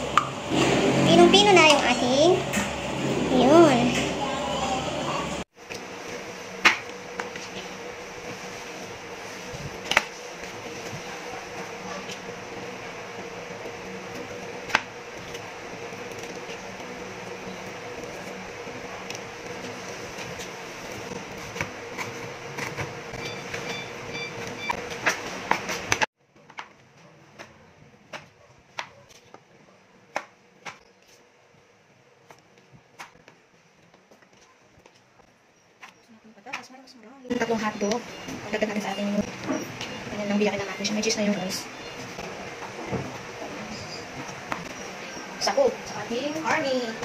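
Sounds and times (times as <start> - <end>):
steady room hum: 0.0 - 47.0.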